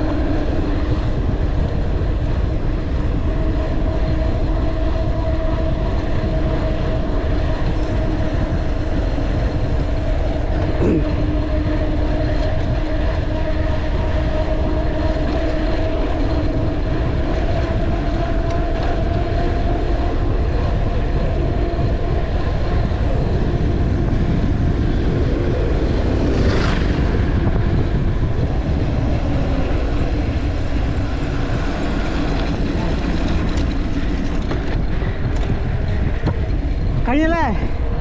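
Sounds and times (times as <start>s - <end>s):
bike tyres on tarmac: 0.0s - 38.0s
wind on microphone: 0.0s - 38.0s.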